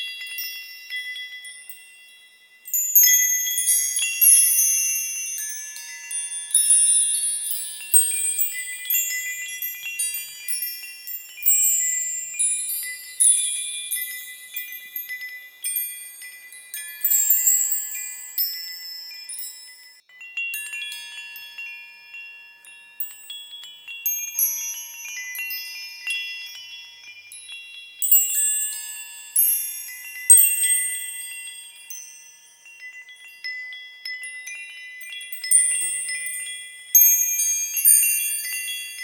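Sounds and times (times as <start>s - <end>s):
high-pitched metal chimes ringing: 0.0s - 39.0s.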